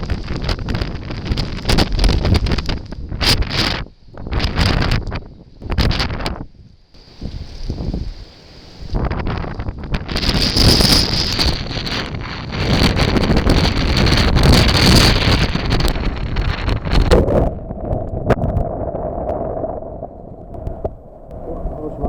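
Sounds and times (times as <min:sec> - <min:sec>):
wind gusting against microphone: 0:00.0 - 0:22.0.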